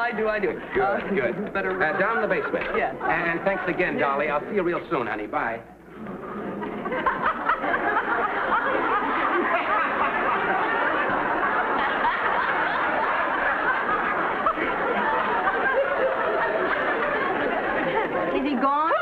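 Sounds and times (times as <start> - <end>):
audience laughter: 0.2 - 4.8, 5.9 - 19.0.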